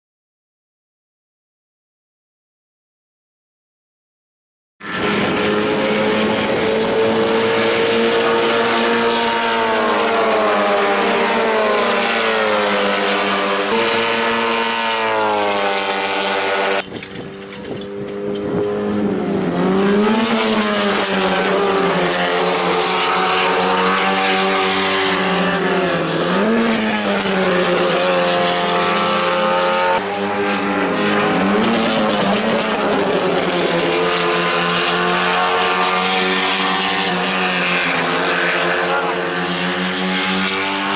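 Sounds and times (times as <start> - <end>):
racing car engines revving: 4.8 - 40.9.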